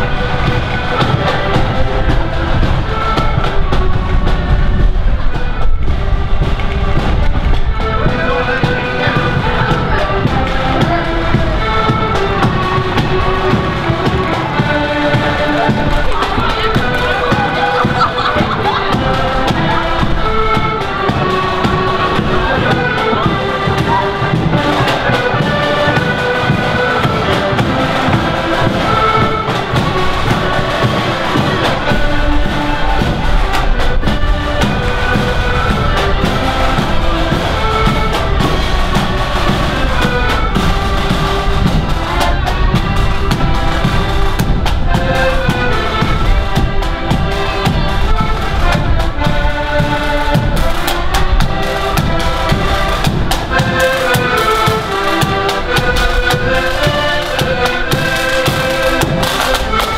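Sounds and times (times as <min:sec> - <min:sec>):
accordions playing melody: 0:00.0 - 0:59.9
drums beating march rhythm: 0:00.0 - 0:59.9.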